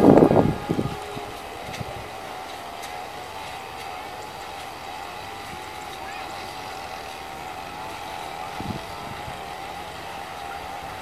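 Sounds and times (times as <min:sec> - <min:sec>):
distant jet engine whine: 0:00.0 - 0:11.0
rushing noise: 0:00.0 - 0:11.0.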